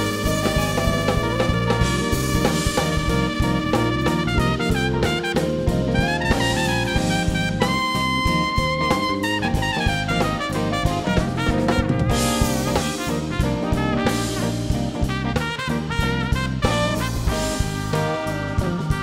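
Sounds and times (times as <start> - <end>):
jazz-funk band playing: 0.0 - 19.0
steady drums: 0.0 - 19.0
trumpet playing: 0.0 - 19.0.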